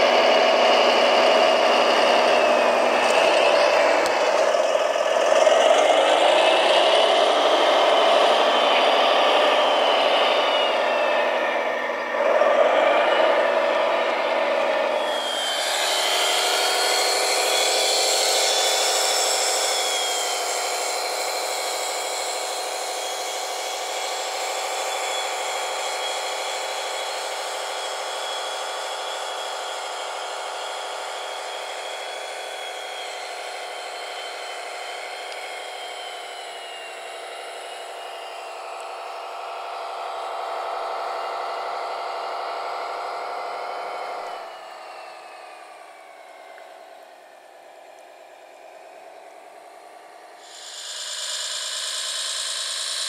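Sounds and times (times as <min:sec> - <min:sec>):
thin high whine: 0:00.0 - 0:53.0
toy truck electric motor whining: 0:00.0 - 0:53.0.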